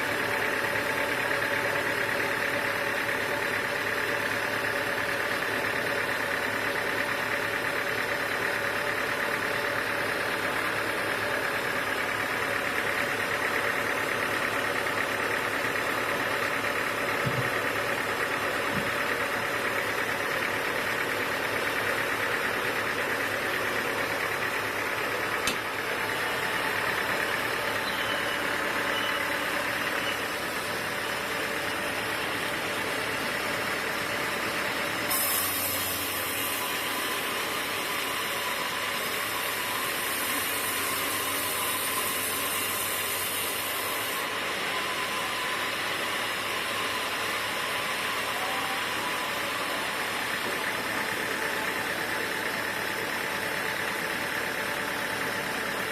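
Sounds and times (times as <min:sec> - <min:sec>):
sawmill machinery humming: 0:00.0 - 0:55.9.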